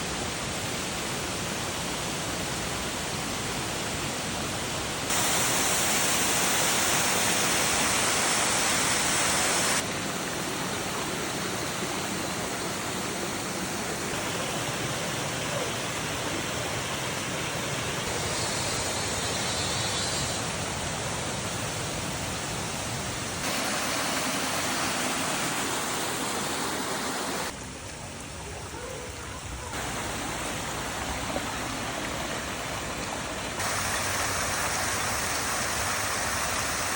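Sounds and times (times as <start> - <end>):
running water rushing: 0.0 - 36.9.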